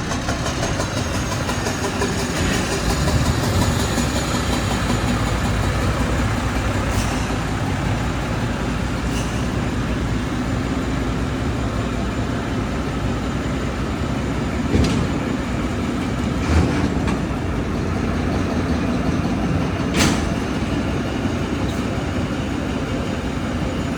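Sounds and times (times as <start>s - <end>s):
truck engine rumbling: 0.0s - 23.9s.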